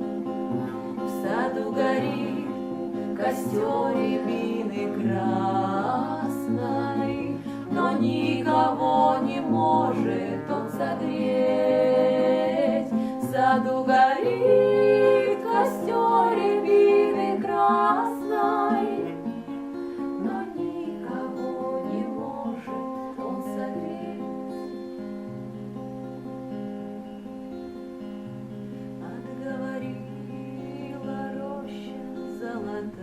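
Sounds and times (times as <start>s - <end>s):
instrumental music: 0.0s - 33.0s.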